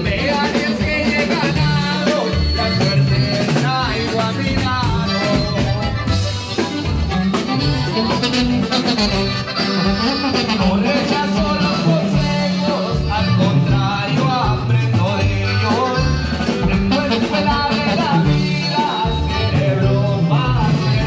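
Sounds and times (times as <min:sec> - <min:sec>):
man singing into a microphone: 0:00.0 - 0:06.2, 0:09.6 - 0:21.0
live latin band music: 0:00.0 - 0:21.0
steady bass line: 0:00.0 - 0:21.0.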